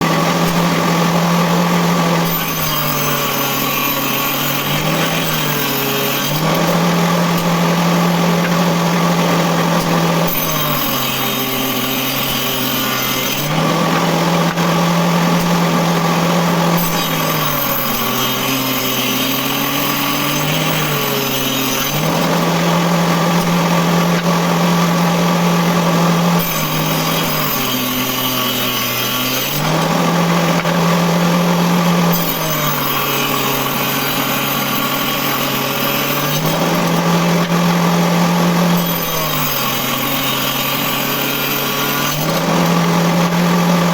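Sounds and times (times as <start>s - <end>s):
circular saw cutting wood: 0.0s - 43.9s.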